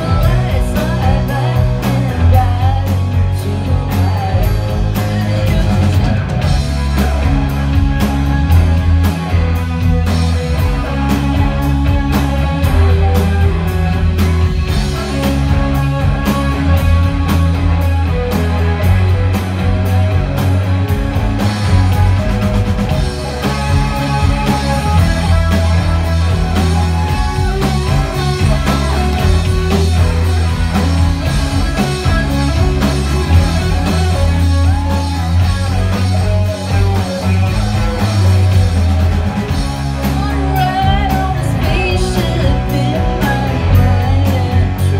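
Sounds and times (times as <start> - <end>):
live rock band instrumental: 0.0 - 44.9.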